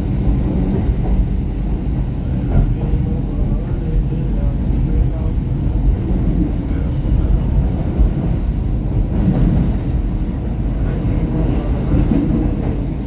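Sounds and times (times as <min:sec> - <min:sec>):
subway wheels rumbling on rails: 0:00.0 - 0:13.0.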